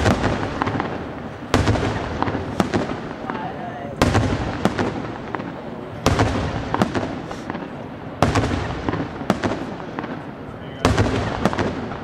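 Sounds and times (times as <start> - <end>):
fireworks booming with echo: 0.0 - 12.0
small fireworks reports: 0.0 - 12.0.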